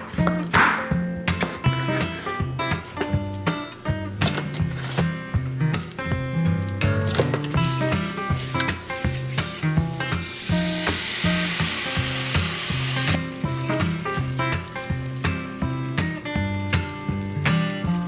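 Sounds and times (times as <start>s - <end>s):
sausage sizzling in a skillet: 2.8s - 18.0s.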